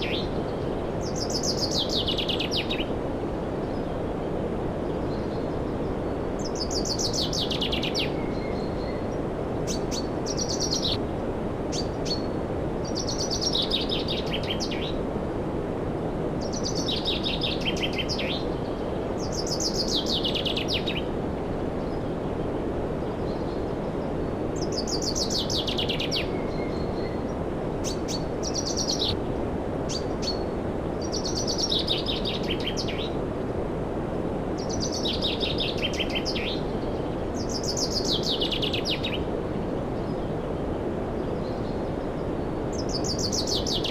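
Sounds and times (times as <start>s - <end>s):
steady rushing noise: 0.0s - 43.9s.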